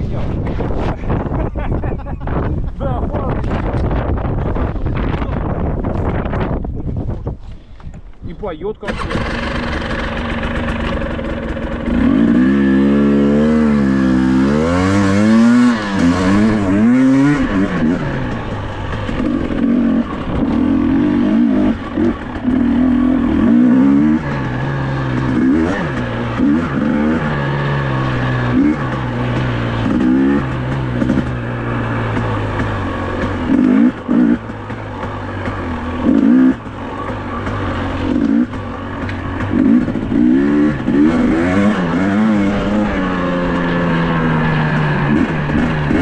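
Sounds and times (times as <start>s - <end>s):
motorcycle engine revving: 8.8s - 46.0s.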